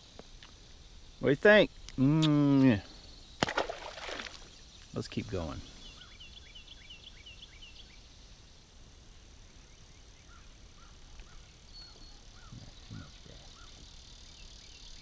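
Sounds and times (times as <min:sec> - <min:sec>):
high insect drone: 0:00.0 - 0:15.0
birds chirping: 0:00.6 - 0:08.1, 0:09.4 - 0:15.0.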